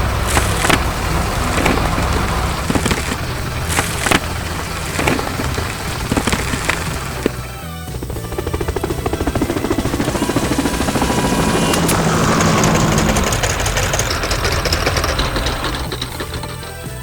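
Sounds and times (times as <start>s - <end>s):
heavy construction machine chatter: 0.0s - 17.0s.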